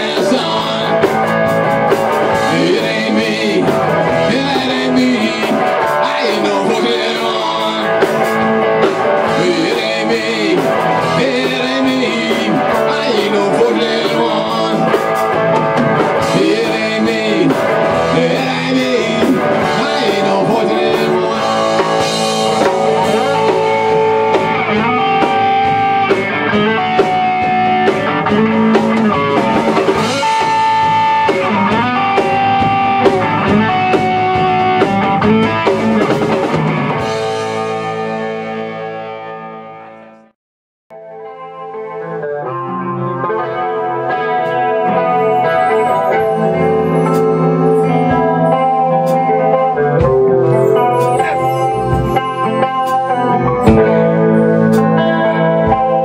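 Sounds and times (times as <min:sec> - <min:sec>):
drum kit: 0:00.0 - 0:39.3, 0:44.5 - 0:56.0
bass guitar: 0:00.0 - 0:40.3, 0:40.9 - 0:56.0
electric guitars: 0:00.0 - 0:40.3, 0:40.9 - 0:56.0
guitar holding long bending notes: 0:00.0 - 0:40.3, 0:40.9 - 0:56.0.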